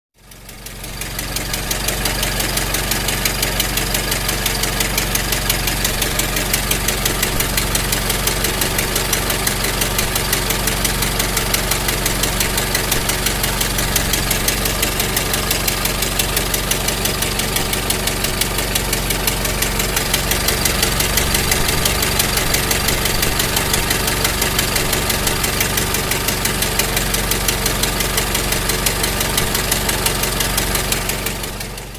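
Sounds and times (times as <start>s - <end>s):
car engine idling: 0.2s - 31.9s.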